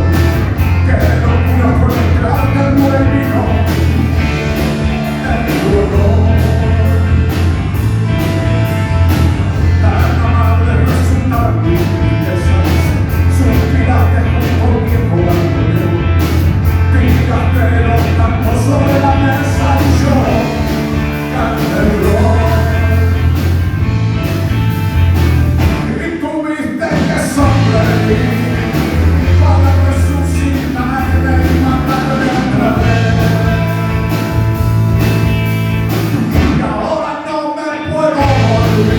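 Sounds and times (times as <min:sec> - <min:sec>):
person singing: 0:00.0 - 0:23.8, 0:25.6 - 0:35.4, 0:36.3 - 0:38.9
rock band playing live: 0:00.0 - 0:38.9.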